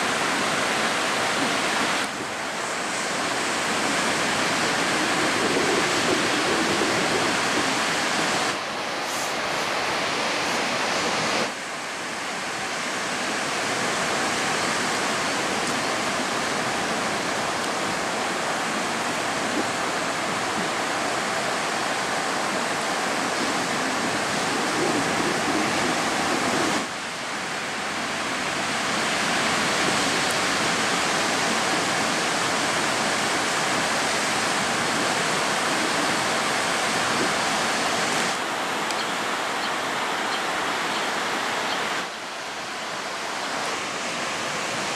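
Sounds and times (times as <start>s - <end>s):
ocean surf breaking: 0.0s - 44.9s.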